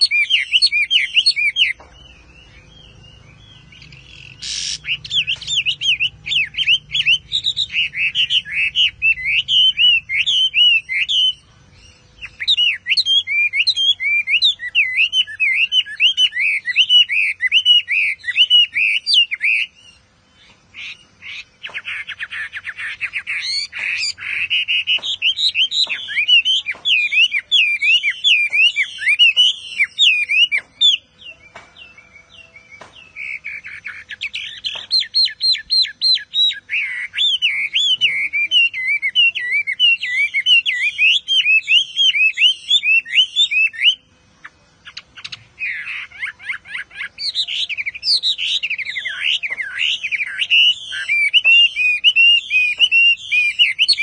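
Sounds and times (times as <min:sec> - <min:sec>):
bird singing: 0:00.0 - 0:54.0.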